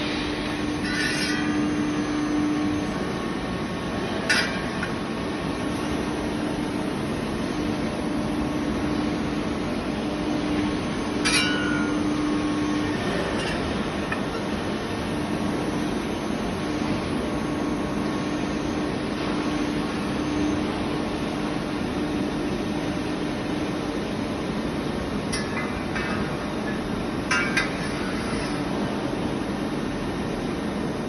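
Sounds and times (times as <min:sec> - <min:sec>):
machine humming tone: 0:00.0 - 0:31.0.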